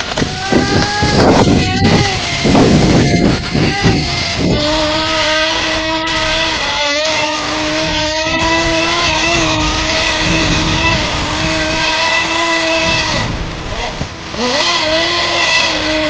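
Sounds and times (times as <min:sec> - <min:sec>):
small engine at high revs: 0:00.0 - 0:16.0.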